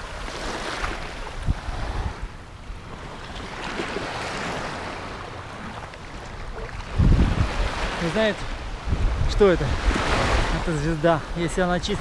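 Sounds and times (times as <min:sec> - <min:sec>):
small waves washing over sand: 0:00.0 - 0:12.0
wind rumbling on microphone: 0:00.0 - 0:12.0.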